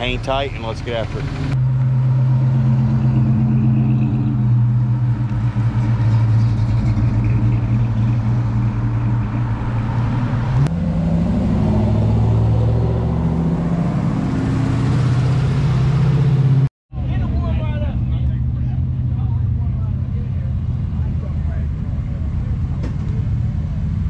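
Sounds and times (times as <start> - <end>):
car engines driving past: 0.0 - 24.0.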